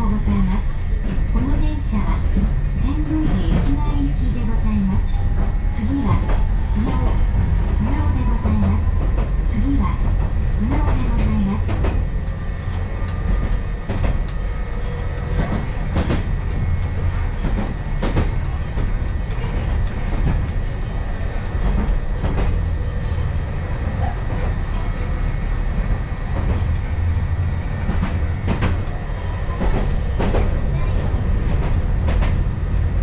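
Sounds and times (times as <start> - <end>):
streetcar rumbling: 0.0 - 33.0.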